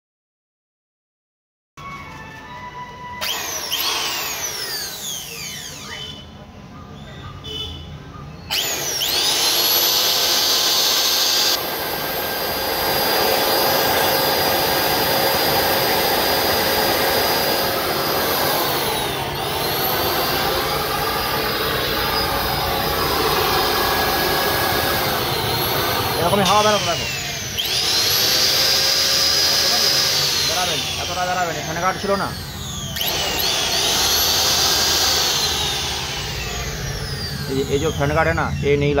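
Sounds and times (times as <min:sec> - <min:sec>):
electric planer motor whining: 0:03.2 - 0:06.2, 0:08.5 - 0:39.0.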